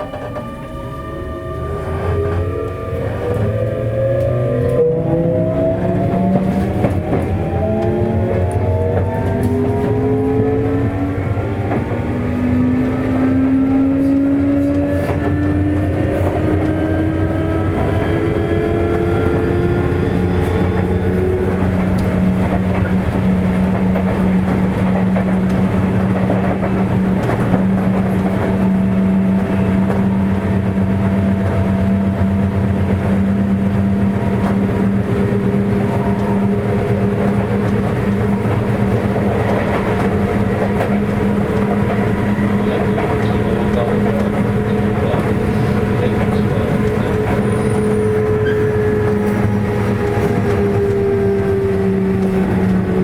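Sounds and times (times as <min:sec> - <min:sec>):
train motors whining: 0:00.0 - 0:53.0
train running rumble: 0:00.0 - 0:53.0.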